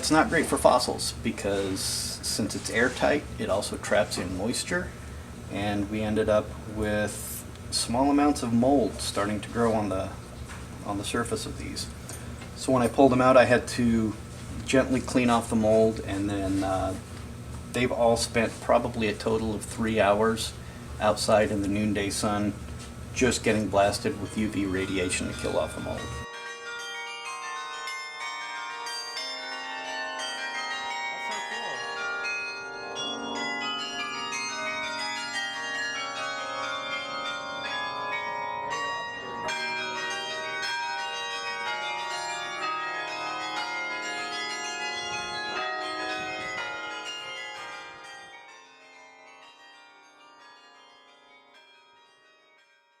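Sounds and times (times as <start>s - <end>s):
carillon bells playing a tune: 0.0s - 10.3s, 10.9s - 17.0s, 17.7s - 22.6s, 23.2s - 53.0s.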